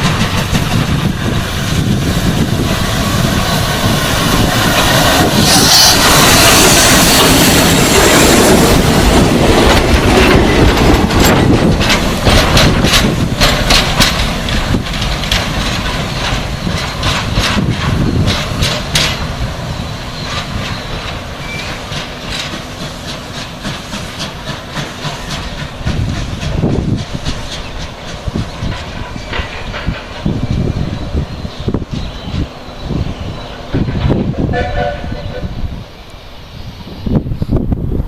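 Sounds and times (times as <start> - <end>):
steel wheels clacking over rail joints: 0.0 - 35.5
train wagons rolling past: 0.0 - 38.0.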